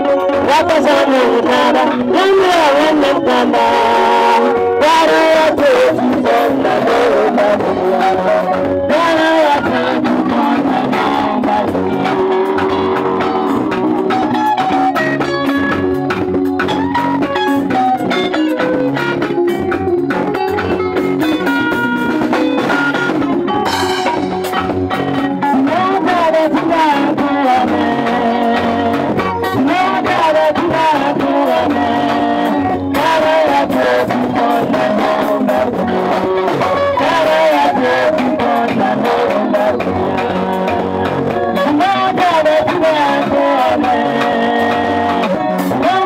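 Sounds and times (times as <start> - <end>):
drum kit: 0.0 - 46.0
guitar: 0.0 - 46.0
keyboard: 0.0 - 46.0
person singing: 0.0 - 46.0.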